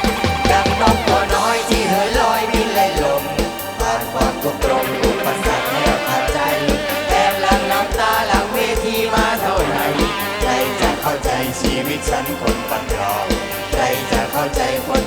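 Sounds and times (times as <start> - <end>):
fast drum beat: 0.0 - 15.0.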